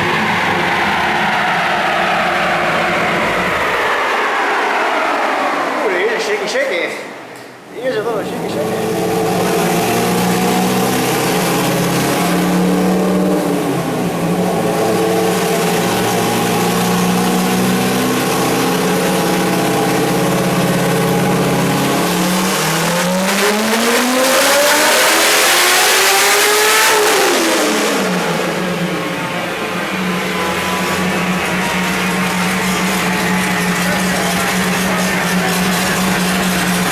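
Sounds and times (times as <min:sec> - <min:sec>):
car engine revving: 0:00.0 - 0:06.4, 0:08.2 - 0:36.9.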